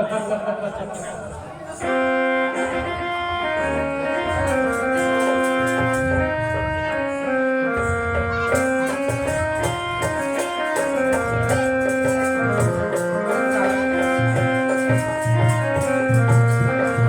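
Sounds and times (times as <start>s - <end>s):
percussion beat: 0.0s - 17.0s
electronic keyboard melody: 1.8s - 17.0s.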